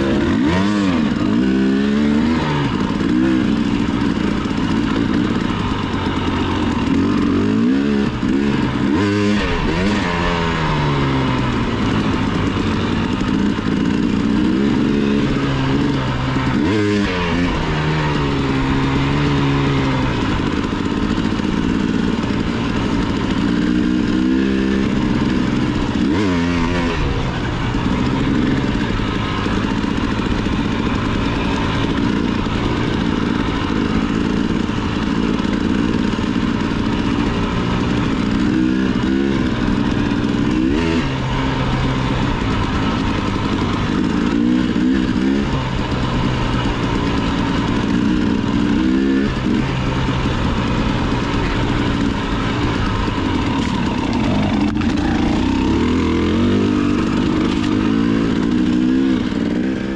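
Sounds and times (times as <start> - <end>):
motorcycle engine revving: 0.0 - 59.9
steady rushing noise: 0.0 - 59.9.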